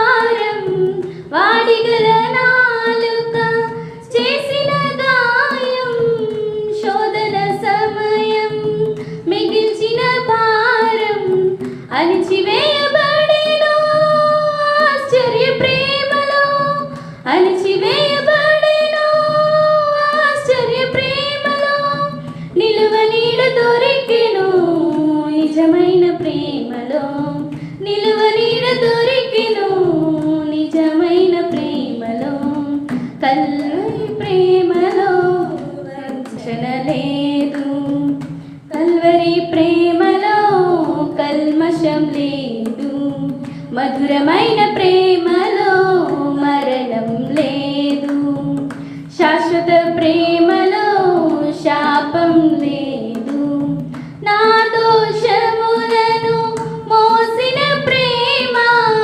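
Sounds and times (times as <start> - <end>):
women singing devotional song: 0.0 - 59.0.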